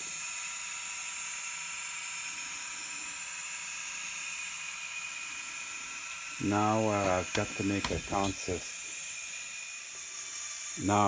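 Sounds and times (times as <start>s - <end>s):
model locomotives hissing and whirring: 0.0s - 11.0s.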